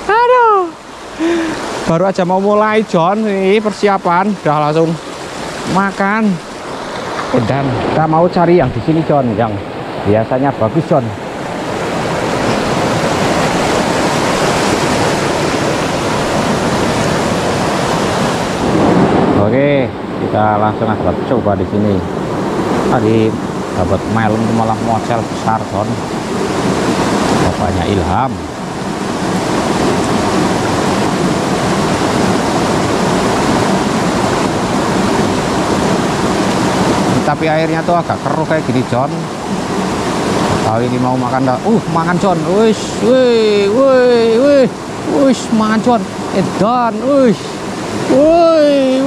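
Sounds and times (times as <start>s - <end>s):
river rushing over stones: 0.0s - 20.8s, 21.4s - 49.0s.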